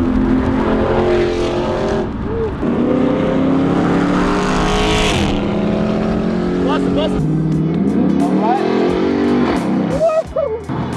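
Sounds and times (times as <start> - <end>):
car engine running loud: 0.0 - 10.1.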